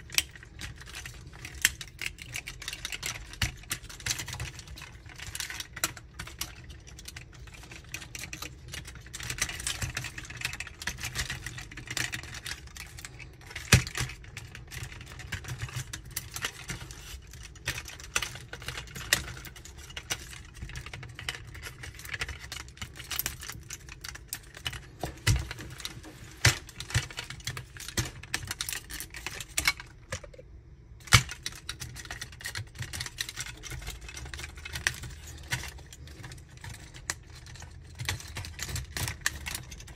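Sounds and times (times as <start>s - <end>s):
plastic toy parts clicking: 0.0s - 39.9s.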